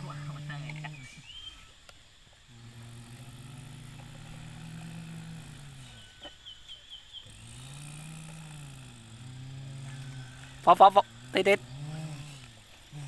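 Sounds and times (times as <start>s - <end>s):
vehicle motor running: 0.0s - 13.0s.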